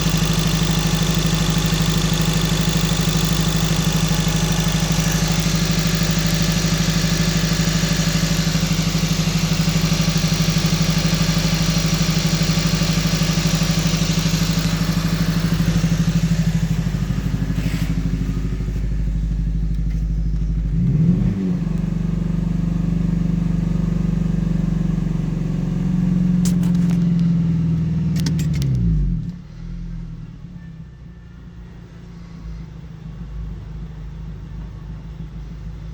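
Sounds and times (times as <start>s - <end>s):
car engine idling with misfire: 0.0s - 35.9s.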